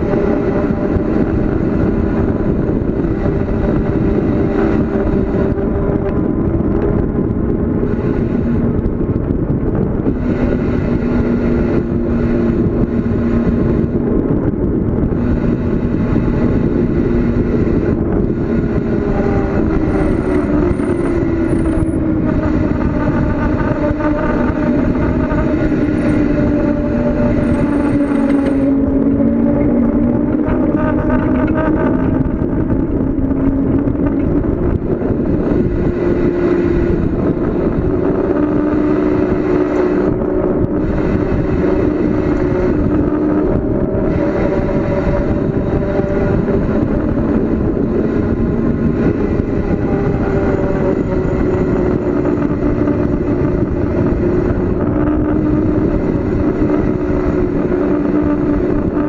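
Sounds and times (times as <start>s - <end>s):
hum rising and falling in pitch: 0.0s - 59.0s
wind and road noise: 0.0s - 59.0s.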